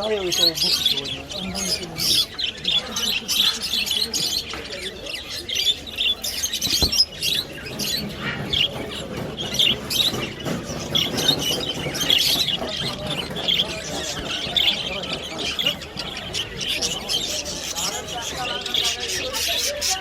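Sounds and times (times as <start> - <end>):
caged birds chirping and squawking: 0.0 - 20.0.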